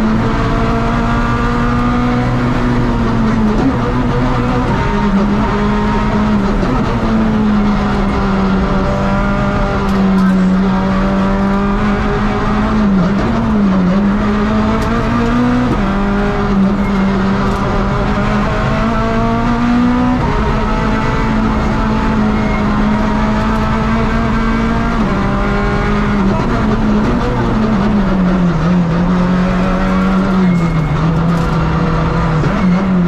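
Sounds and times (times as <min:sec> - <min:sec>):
rally car engine at high revs: 0:00.0 - 0:33.0.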